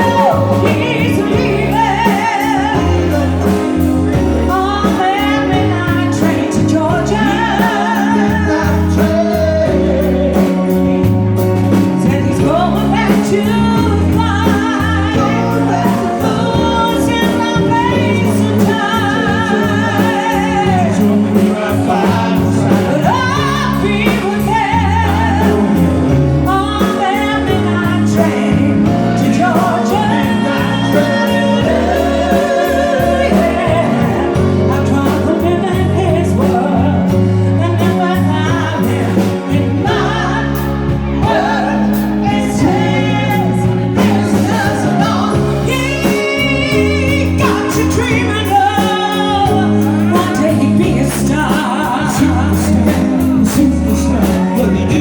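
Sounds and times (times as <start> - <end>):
backing accompaniment: 0.0 - 55.0
person singing with vibrato: 0.0 - 55.0
steady bass: 0.0 - 55.0.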